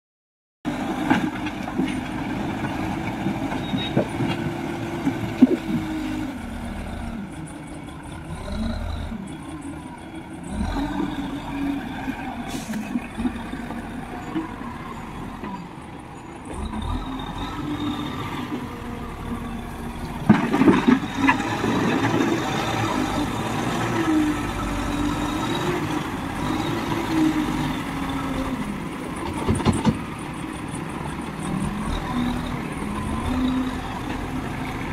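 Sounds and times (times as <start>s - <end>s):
backhoe diesel engine under load: 0.7s - 34.9s.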